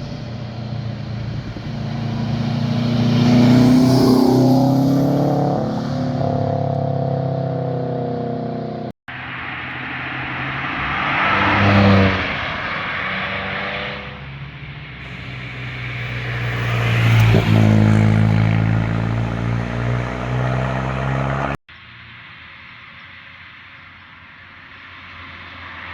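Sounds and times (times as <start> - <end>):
sports cars driving past: 0.0 - 14.4, 15.0 - 21.6.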